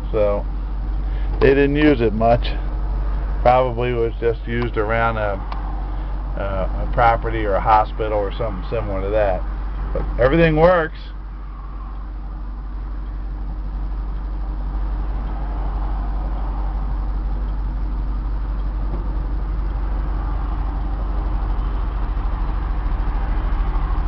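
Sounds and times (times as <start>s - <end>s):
truck engine with road rumble: 0.0s - 24.0s.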